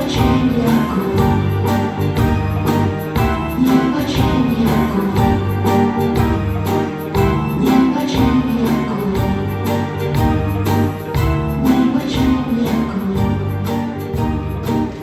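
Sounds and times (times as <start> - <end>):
live band with guitar and beat: 0.0 - 15.0.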